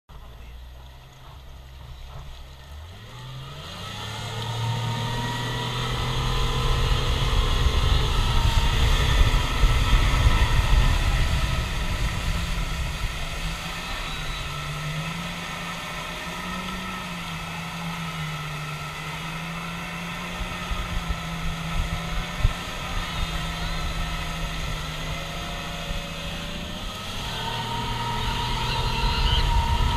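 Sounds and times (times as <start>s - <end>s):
outboard motor running hard: 0.1s - 29.9s
water rushing: 0.2s - 29.9s
wind buffeting microphone: 3.7s - 29.9s.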